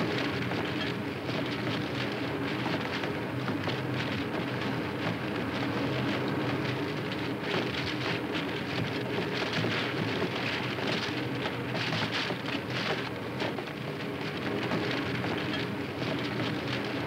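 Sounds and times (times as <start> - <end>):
processing machine hiss and patter: 0.0 - 17.0.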